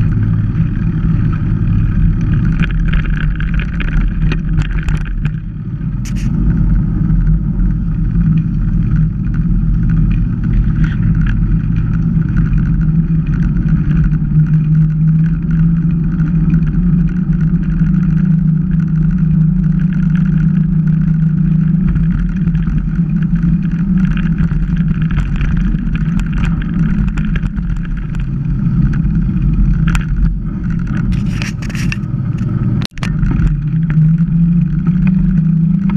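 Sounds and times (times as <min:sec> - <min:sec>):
bike tyre rumble on asphalt: 0:00.0 - 0:35.9
wind rush: 0:00.0 - 0:35.9.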